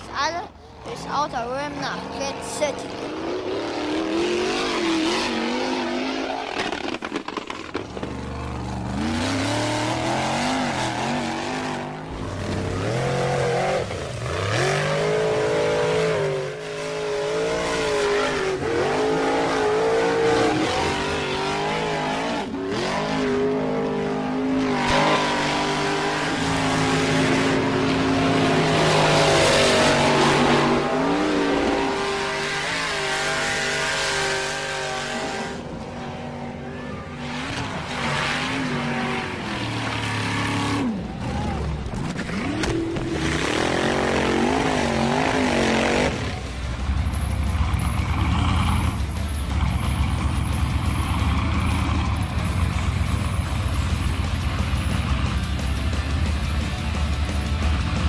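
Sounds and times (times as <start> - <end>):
racing car engines revving: 0.0 - 58.0.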